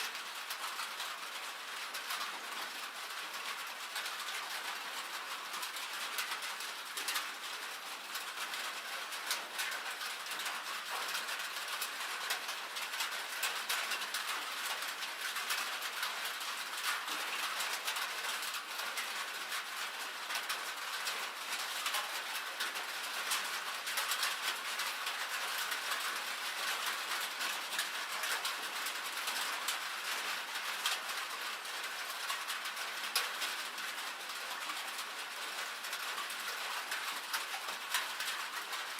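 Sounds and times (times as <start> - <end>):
rain and hail on a metal roof: 0.0 - 38.9.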